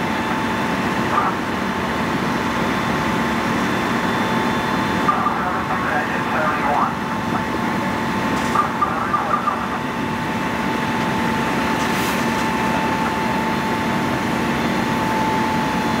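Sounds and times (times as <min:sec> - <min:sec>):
diesel engine whining and rumbling: 0:00.0 - 0:16.0.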